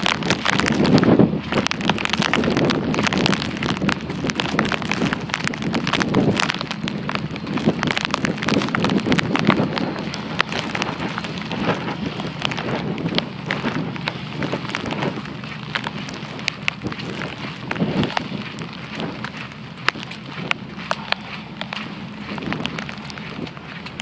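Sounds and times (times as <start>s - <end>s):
heavy rain hitting hard surfaces: 0.0s - 24.0s
steady low hum: 0.0s - 24.0s.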